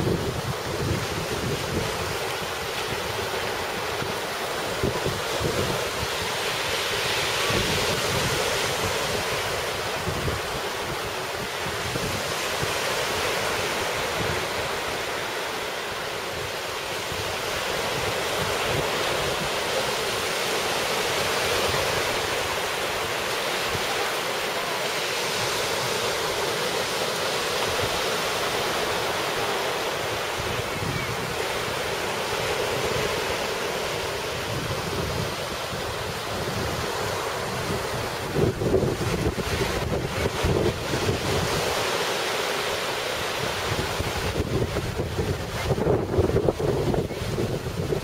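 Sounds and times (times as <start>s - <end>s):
wind on microphone: 0.0s - 15.3s, 15.9s - 48.0s
surf breaking on beach: 0.0s - 48.0s.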